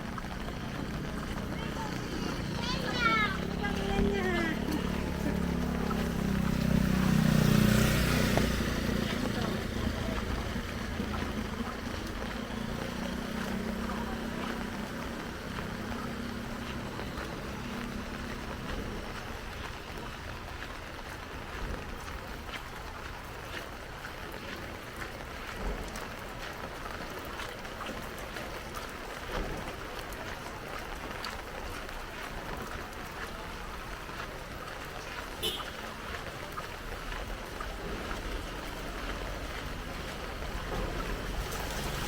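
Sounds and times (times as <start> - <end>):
heavy rain pattering: 0.0 - 42.0
low engine hum: 0.0 - 42.0.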